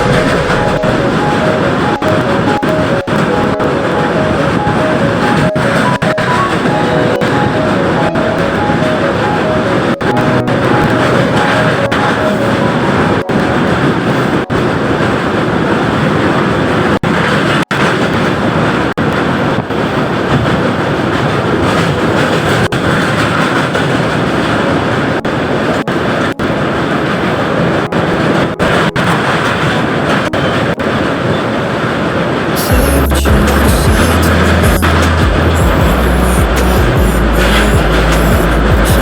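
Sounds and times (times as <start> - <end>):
passenger train running: 0.0 - 17.5, 18.1 - 39.0.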